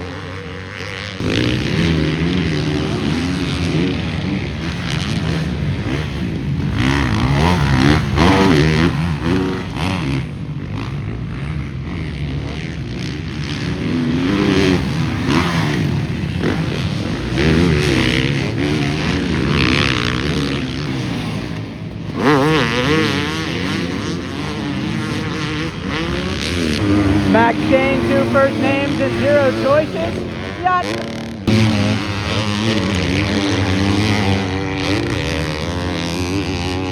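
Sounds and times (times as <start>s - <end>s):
bike revving up close: 0.0s - 36.9s
motocross bikes revving: 0.0s - 36.9s.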